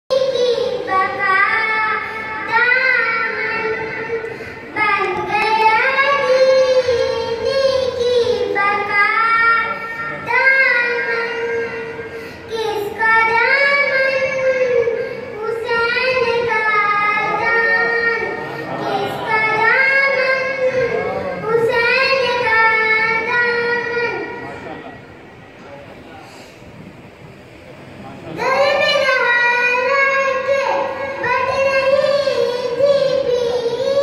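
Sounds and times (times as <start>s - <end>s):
boy chanting in high melodic voice: 0.1s - 24.6s, 28.3s - 34.0s.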